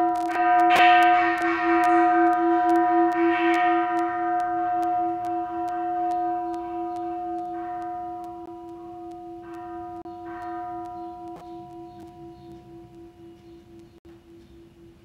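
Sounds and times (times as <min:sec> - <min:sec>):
temple bell ringing: 0:00.0 - 0:15.0.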